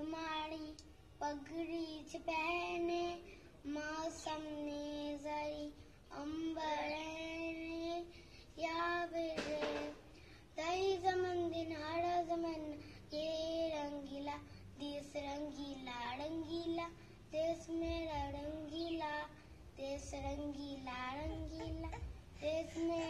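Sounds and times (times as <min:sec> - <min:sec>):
girl singing unaccompanied: 0:00.0 - 0:23.0.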